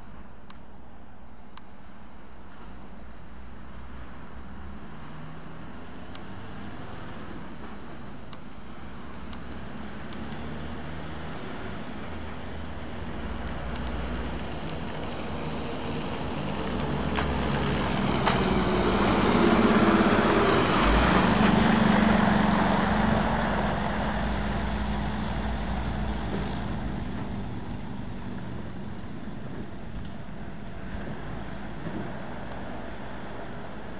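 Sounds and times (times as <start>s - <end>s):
tyre noise on wet road: 2.6s - 33.9s
truck diesel engine: 3.4s - 33.9s.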